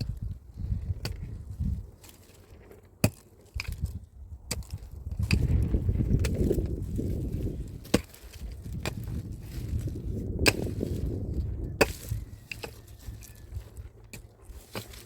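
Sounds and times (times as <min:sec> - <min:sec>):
low continuous scraping: 0:00.0 - 0:15.0
pickaxe striking soil and stones: 0:00.0 - 0:15.0.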